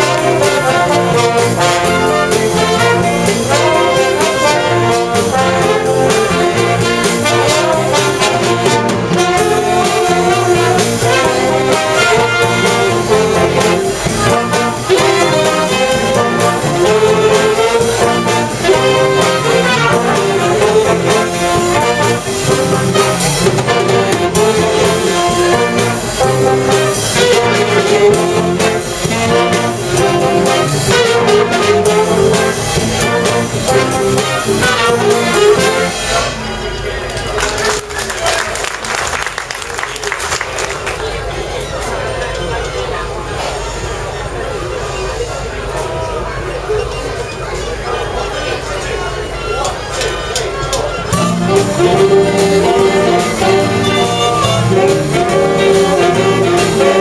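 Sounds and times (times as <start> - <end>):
jazz big band playing: 0.0 - 42.1, 47.4 - 57.0.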